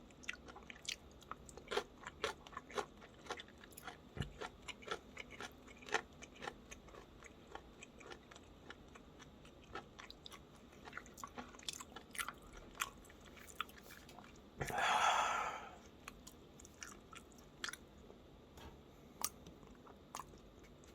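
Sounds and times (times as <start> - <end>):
wet chewing and crunching: 0.0 - 14.5, 15.9 - 18.2, 19.2 - 20.9.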